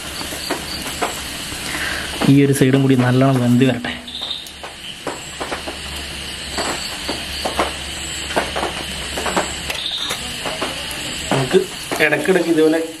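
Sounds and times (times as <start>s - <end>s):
crackles and pops: 0.0s - 12.8s
chicken sizzling on a grill: 0.0s - 13.0s.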